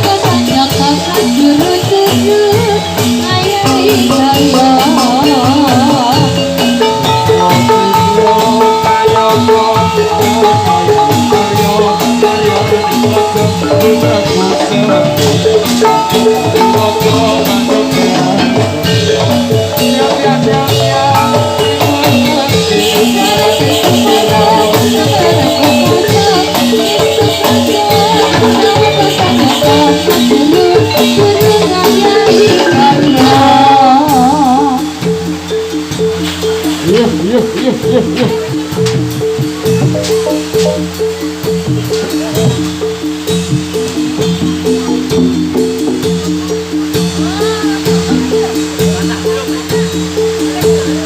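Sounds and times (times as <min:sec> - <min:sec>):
drums: 0:00.0 - 0:51.0
rattling shaken percussion: 0:00.0 - 0:51.0
struck metallophone melodies: 0:00.0 - 0:51.0.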